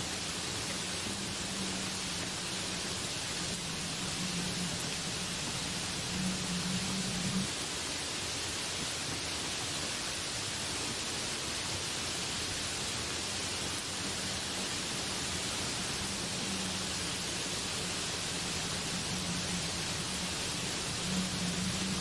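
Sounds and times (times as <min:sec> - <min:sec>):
heavy rain on leaves: 0:00.0 - 0:22.0.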